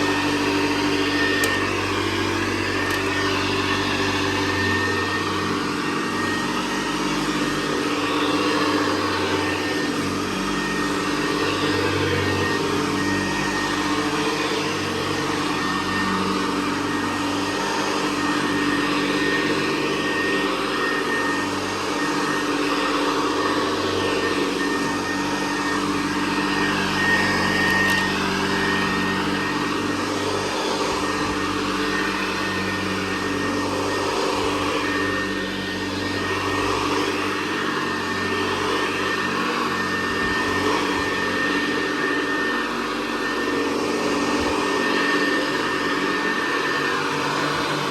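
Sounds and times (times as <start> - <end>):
upright vacuum cleaner running: 0.0 - 47.9.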